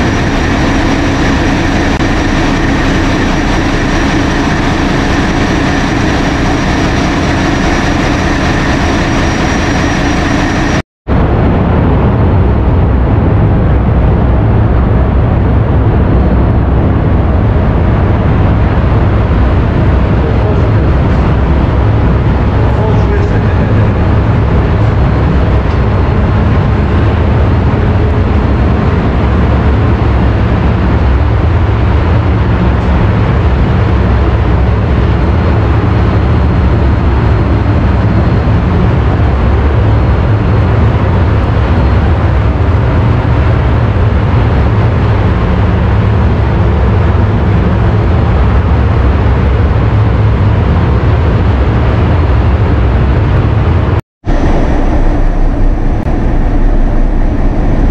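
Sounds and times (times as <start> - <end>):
deep engine room machinery drone: 0.0 - 57.9.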